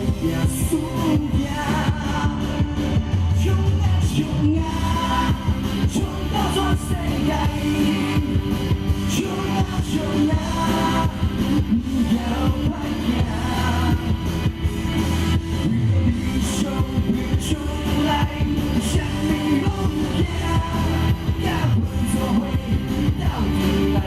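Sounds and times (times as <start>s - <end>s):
drum beat: 0.0s - 24.0s
heavy bass: 0.0s - 24.0s
live band music: 0.0s - 24.0s.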